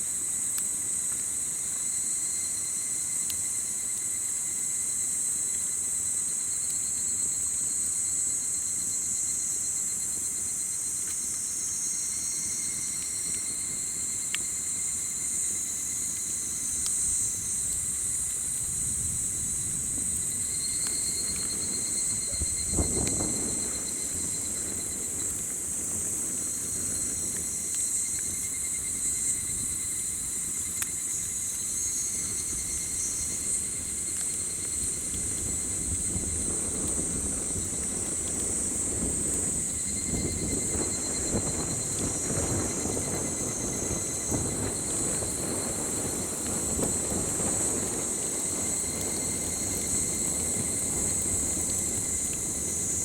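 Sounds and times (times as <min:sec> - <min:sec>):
campfire crackles: 0:00.0 - 0:53.0
insects trilling: 0:00.0 - 0:53.0.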